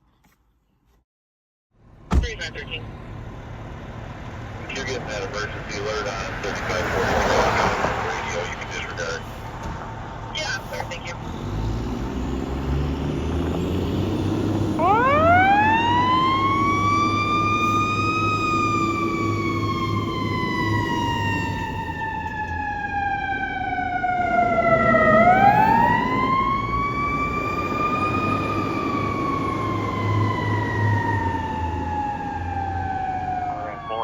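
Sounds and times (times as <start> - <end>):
fire truck siren wailing: 2.8 - 34.0.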